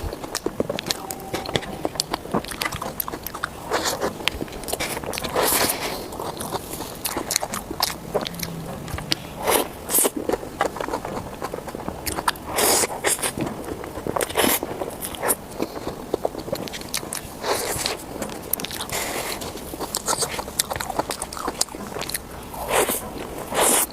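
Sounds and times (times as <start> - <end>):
biting and chewing: 0.0 - 23.9.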